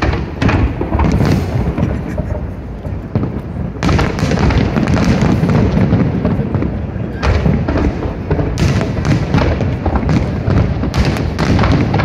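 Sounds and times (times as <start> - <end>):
fireworks booms and crackles: 0.0 - 12.0.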